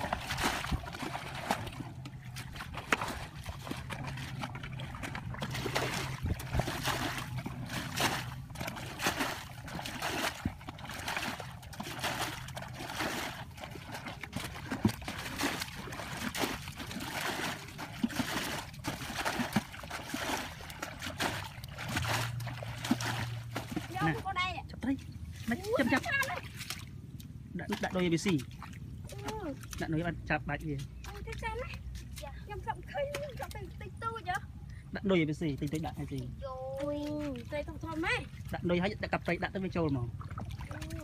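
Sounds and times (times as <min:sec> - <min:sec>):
water splashing and pouring from buckets: 0:00.0 - 0:32.3, 0:35.4 - 0:41.0
water sloshing from wading: 0:00.0 - 0:41.0.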